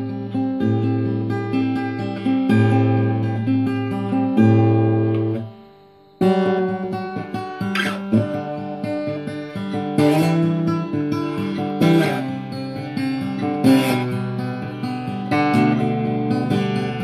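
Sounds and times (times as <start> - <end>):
acoustic guitar picking: 0.0 - 17.0
strummed guitar chords: 0.0 - 17.0.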